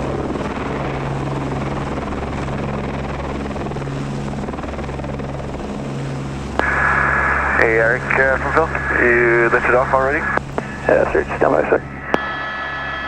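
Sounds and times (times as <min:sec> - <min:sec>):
helicopter turbine and rotors humming: 0:00.0 - 0:13.0.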